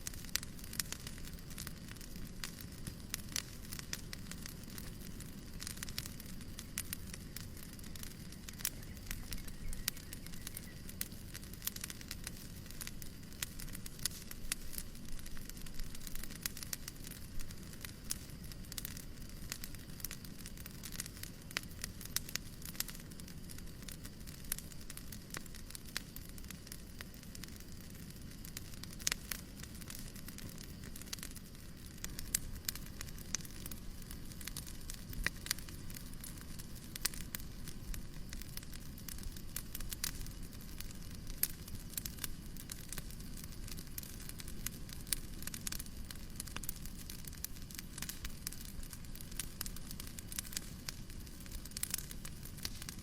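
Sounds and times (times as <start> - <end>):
low rumble and hiss: 0.0 - 53.0
wood fire crackling: 0.0 - 53.0.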